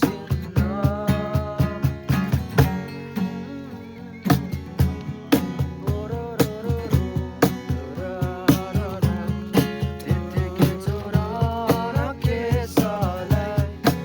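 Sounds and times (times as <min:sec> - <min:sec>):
music with beat and guitar: 0:00.0 - 0:14.0.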